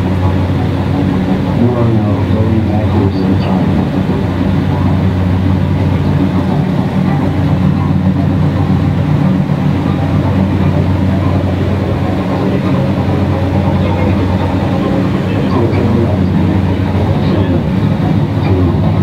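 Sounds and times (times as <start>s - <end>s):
low mechanical rumble: 0.0s - 19.0s.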